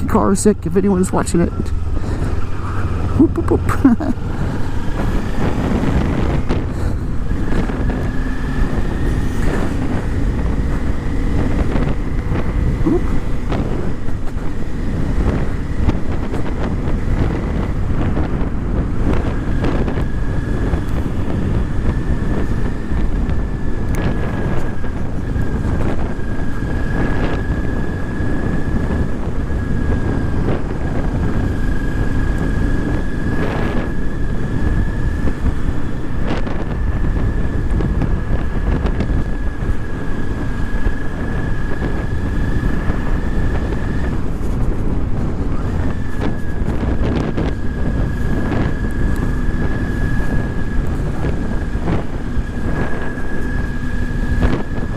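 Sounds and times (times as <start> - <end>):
motorcycle engine: 0.0 - 54.9
wind rushing over microphone: 0.0 - 54.9.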